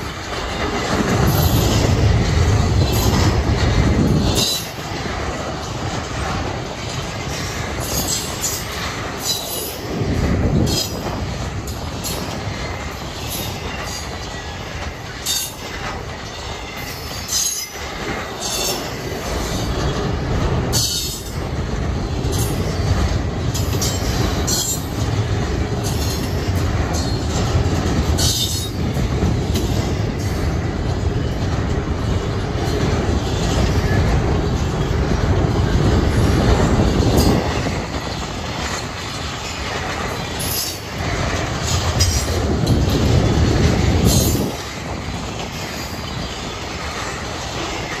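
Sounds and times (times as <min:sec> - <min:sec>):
steel wheels rumbling on rail: 0:00.0 - 0:48.0.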